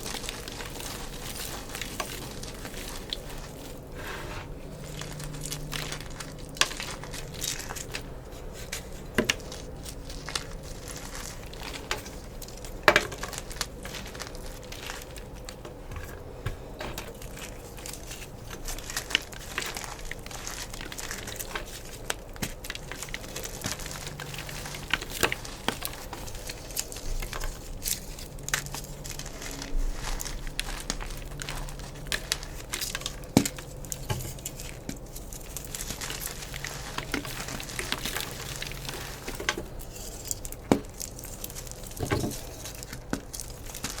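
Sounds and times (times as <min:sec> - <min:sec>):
chalk crunching and cracking: 0:00.0 - 0:44.0.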